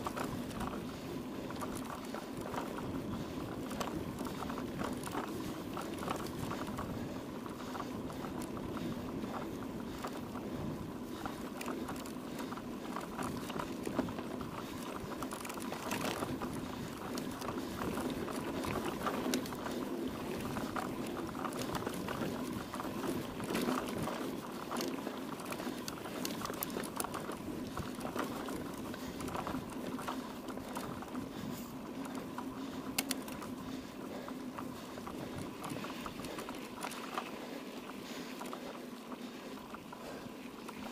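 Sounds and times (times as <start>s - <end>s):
bike rattling and ticking: 0.0s - 40.9s
bike tyres on rough ground: 0.0s - 40.9s.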